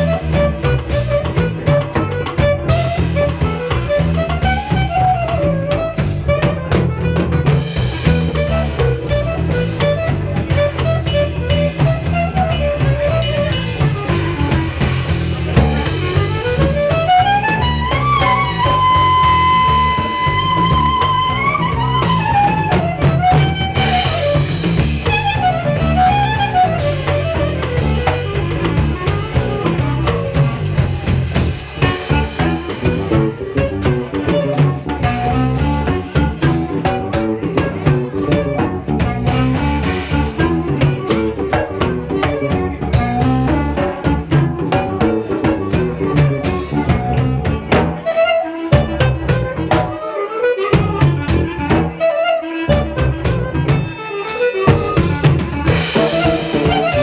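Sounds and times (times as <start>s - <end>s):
low bass: 0.0s - 48.1s, 48.7s - 50.0s, 50.8s - 52.0s, 52.7s - 54.0s, 54.6s - 57.0s
drum kit: 0.0s - 57.0s
lead melody: 0.0s - 57.0s.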